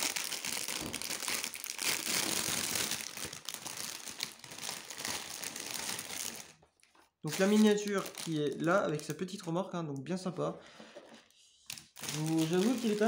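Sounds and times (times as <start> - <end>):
plastic wrap crinkling: 0.0 - 9.6, 11.7 - 13.0.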